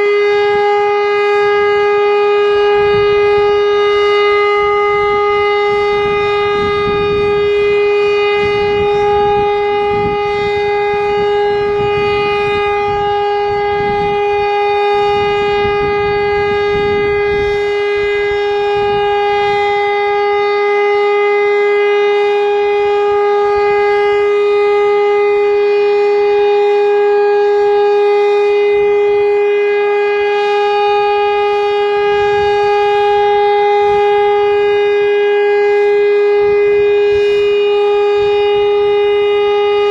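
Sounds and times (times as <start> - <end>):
air-raid siren steady tone: 0.0 - 39.9.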